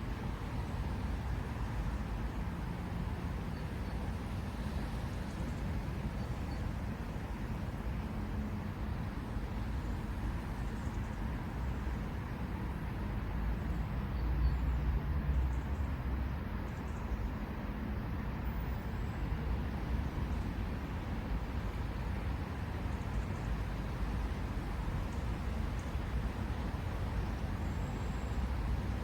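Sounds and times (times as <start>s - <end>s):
distant road traffic rumble: 0.1s - 29.0s.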